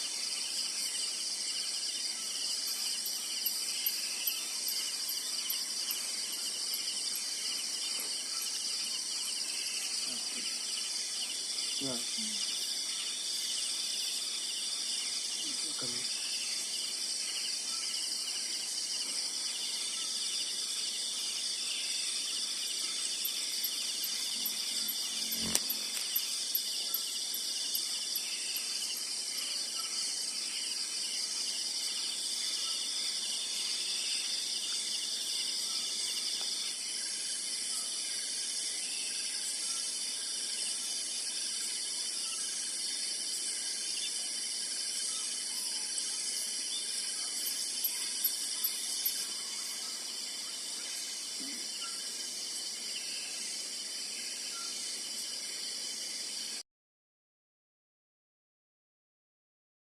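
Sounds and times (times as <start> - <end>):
insects buzzing and trilling: 0.0 - 56.6.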